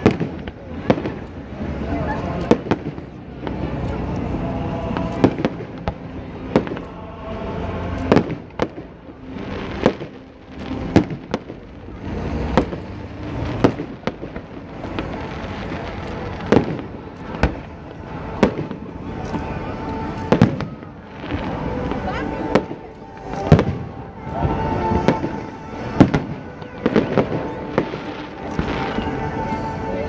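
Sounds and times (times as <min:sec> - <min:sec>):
fireworks bursting with sharp bangs: 0:00.0 - 0:30.0
steady background noise: 0:00.0 - 0:30.0.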